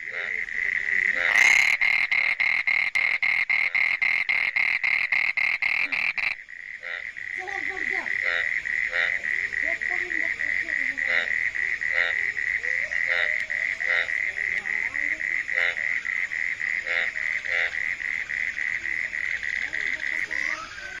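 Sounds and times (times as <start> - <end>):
high steady toad trill: 0.0 - 20.6
frogs croaking: 0.0 - 21.0
loud fast-pulsing toad call: 0.1 - 21.0.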